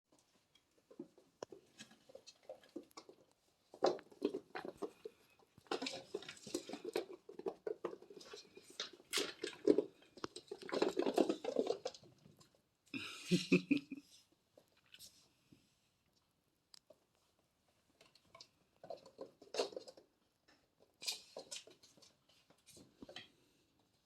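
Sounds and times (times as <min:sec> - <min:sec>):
kittens scuffling and pattering: 0:00.1 - 0:12.9, 0:14.0 - 0:24.0.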